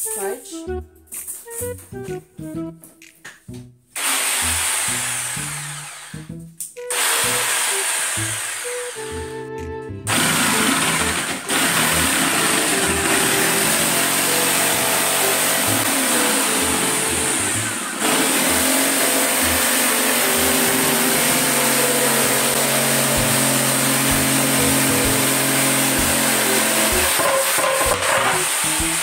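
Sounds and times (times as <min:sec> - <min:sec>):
jigsaw cutting wood: 0:04.0 - 0:06.3, 0:06.9 - 0:09.3, 0:10.1 - 0:29.0.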